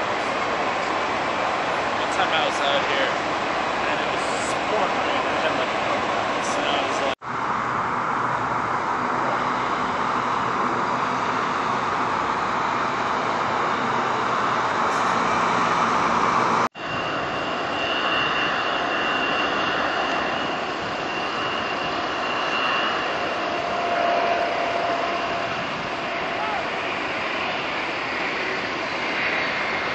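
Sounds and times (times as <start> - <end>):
jet airliner engine noise: 0.0 - 29.9
jet engine high whine: 0.0 - 29.9.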